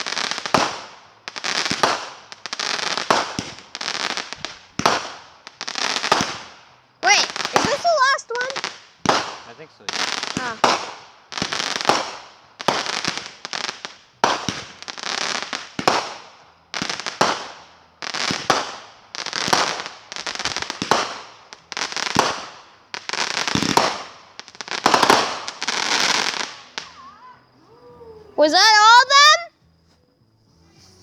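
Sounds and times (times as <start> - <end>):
fireworks bangs and crackle: 0.0 - 27.6.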